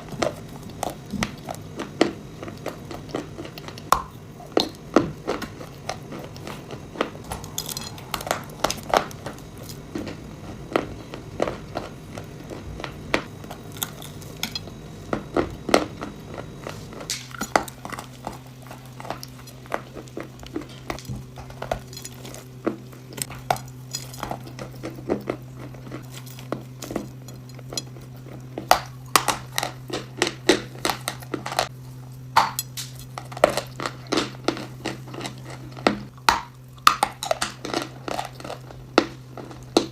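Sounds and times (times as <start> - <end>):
crunching and crackling bites: 0.0 - 39.9.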